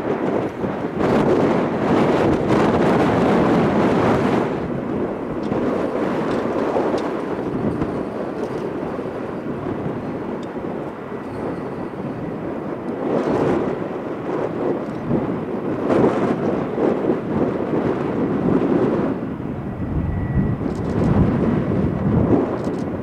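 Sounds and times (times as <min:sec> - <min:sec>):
jet engine noise: 0:00.0 - 0:23.0.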